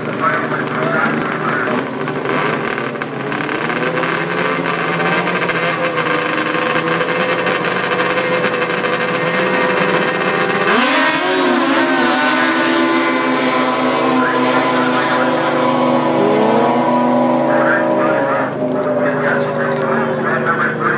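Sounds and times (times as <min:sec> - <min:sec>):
engine revving sharply: 0:00.0 - 0:20.9
racing vehicle engines running: 0:00.0 - 0:20.9.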